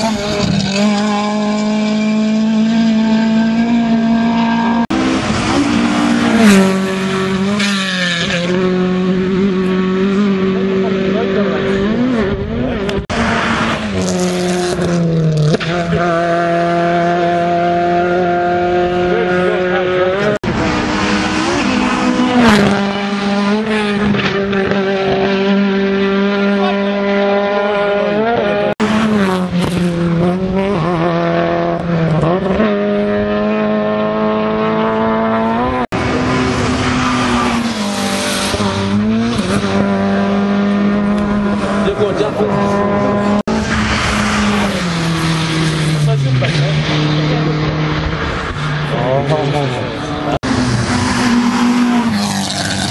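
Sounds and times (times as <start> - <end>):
rally car engines at full throttle: 0.0 - 52.9.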